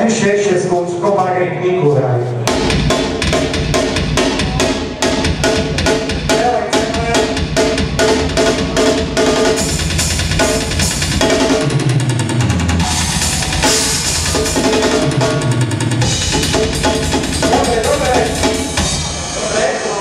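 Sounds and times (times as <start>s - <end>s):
live band playing: 2.2s - 20.0s
bass drum and snare strokes: 2.4s - 19.7s.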